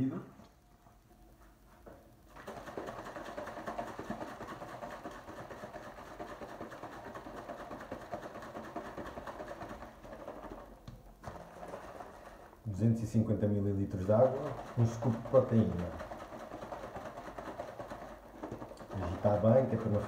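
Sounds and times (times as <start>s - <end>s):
shaker bottle rattling and sloshing: 2.3s - 20.0s.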